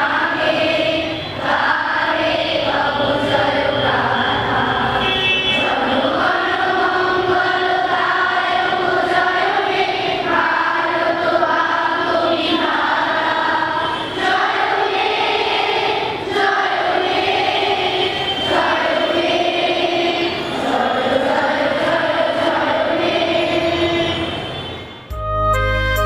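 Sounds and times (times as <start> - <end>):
girls choir singing: 0.0 - 24.6.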